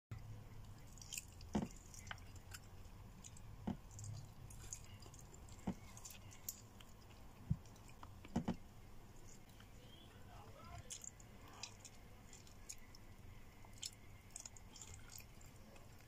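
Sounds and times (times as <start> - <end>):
low steady hum: 0.1 - 16.0
person chewing: 0.4 - 8.6, 10.7 - 16.0.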